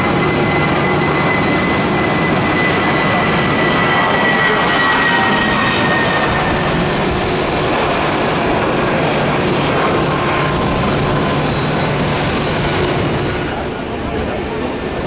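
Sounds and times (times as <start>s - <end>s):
jet airliner taking off: 0.0s - 15.0s.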